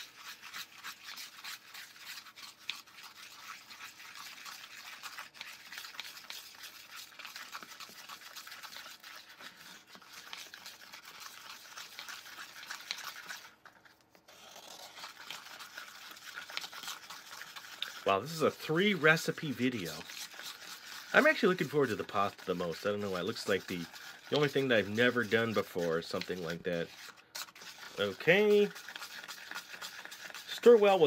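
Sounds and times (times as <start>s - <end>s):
plastic spoon scraping bowl: 0.0s - 31.0s.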